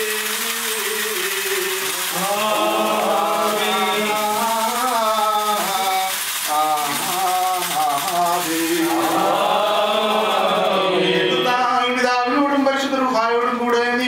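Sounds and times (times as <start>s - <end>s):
men chanting a hymn: 0.0s - 14.0s.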